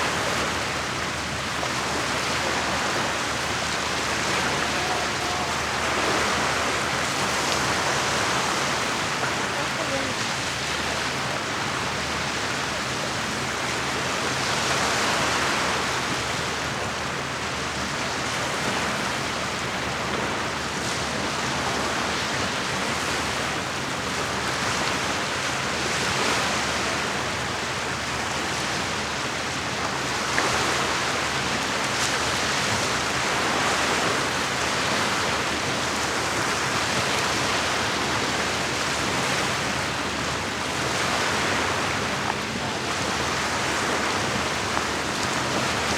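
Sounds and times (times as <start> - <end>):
small waves washing on shore: 0.0 - 45.9.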